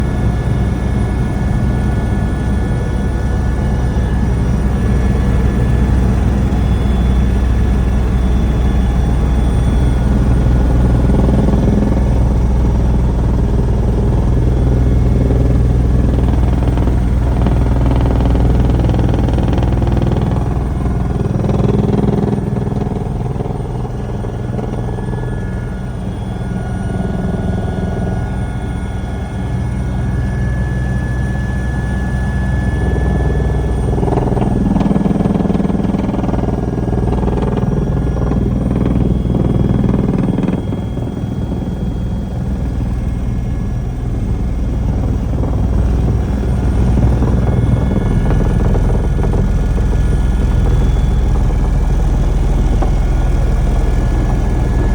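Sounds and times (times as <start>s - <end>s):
helicopter drone: 0.0s - 54.9s.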